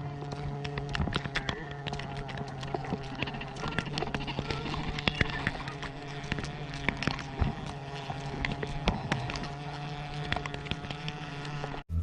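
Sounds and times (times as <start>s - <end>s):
bees buzzing: 0.0s - 11.9s.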